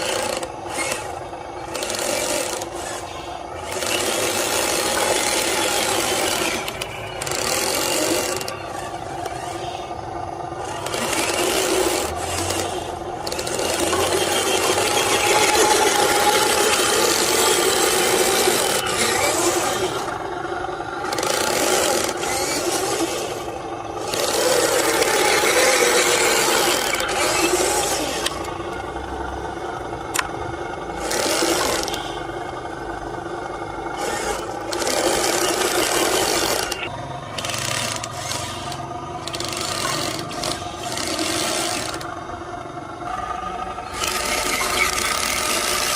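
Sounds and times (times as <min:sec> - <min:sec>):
model truck motor and gears: 0:00.0 - 0:45.9.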